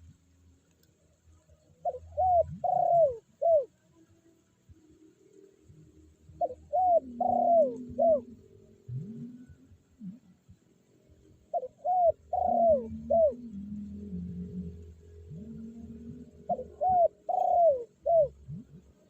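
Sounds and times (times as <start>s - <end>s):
dove cooing: 1.6s - 3.8s, 5.2s - 19.0s.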